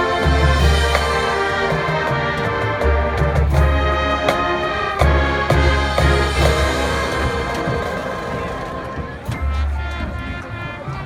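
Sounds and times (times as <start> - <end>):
marching band brass chords: 0.0 - 11.0.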